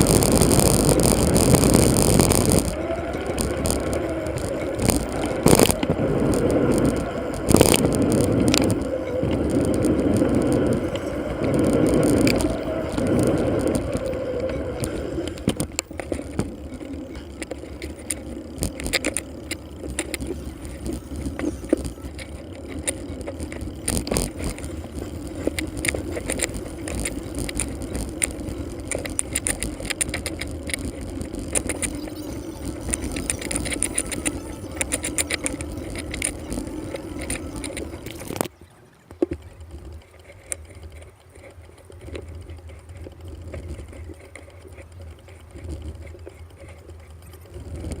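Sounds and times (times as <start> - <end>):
bicycle rattles and clicks: 0.0 - 48.0
bicycle road rumble: 0.0 - 48.0
wind: 0.0 - 48.0.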